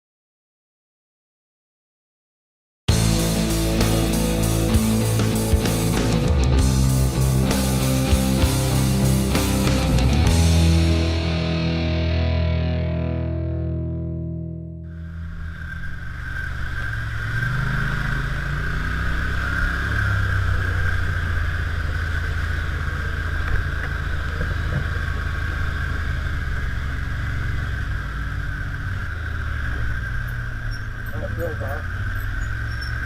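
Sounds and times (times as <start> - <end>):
atv engine running: 2.9 - 33.0
steady high whine: 2.9 - 33.0.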